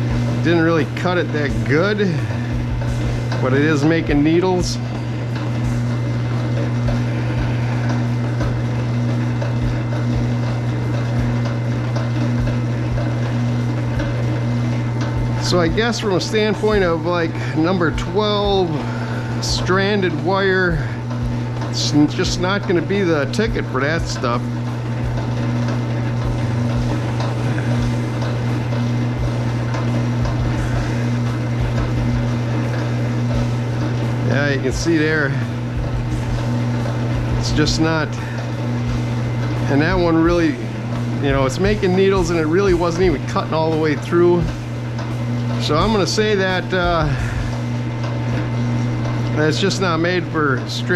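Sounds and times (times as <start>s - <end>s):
wire-stripping machine humming: 0.0s - 50.9s.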